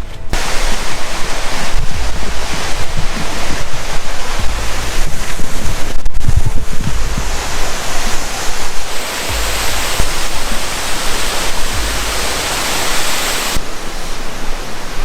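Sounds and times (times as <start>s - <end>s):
storm wind rushing: 0.0s - 15.0s
wind gusts on microphone: 0.0s - 15.0s.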